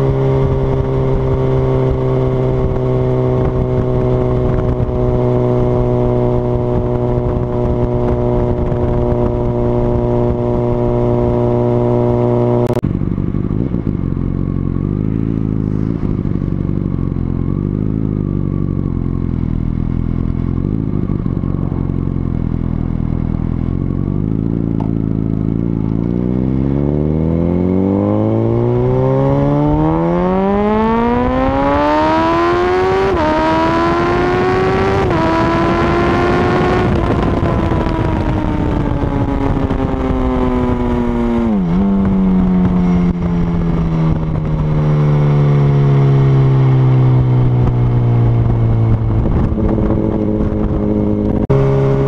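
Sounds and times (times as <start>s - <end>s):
motorcycle engine revving: 0.0s - 52.0s
wind noise: 0.0s - 52.0s.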